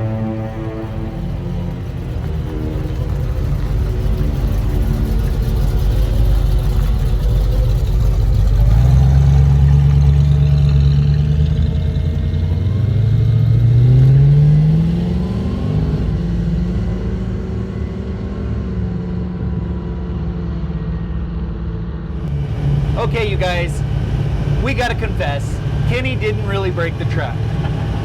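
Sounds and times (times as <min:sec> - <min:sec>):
truck engine accelerating: 0:00.0 - 0:19.6, 0:22.0 - 0:28.0.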